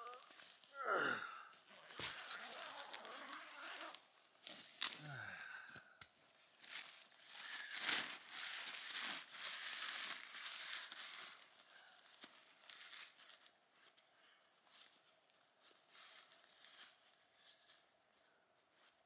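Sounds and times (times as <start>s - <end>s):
nylon fabric rustling: 0.0s - 5.0s, 6.3s - 14.0s, 14.6s - 19.0s.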